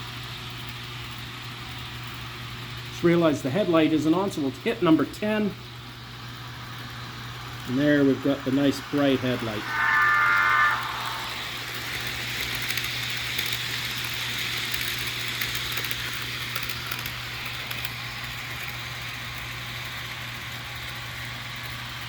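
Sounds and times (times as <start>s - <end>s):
model locomotive diesel engine sound: 0.0s - 22.0s.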